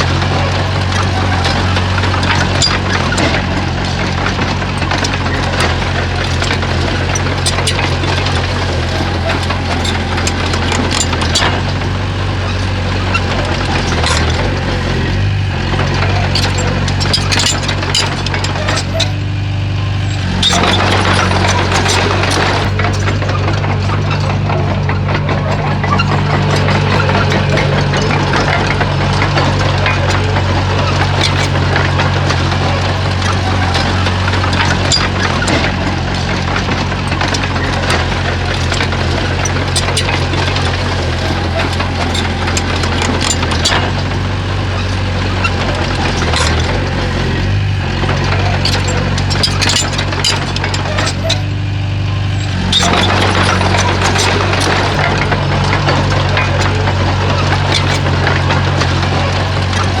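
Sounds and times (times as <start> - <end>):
bulldozer diesel engine running: 0.0 - 60.0
metal clanks and knocks: 0.0 - 60.0.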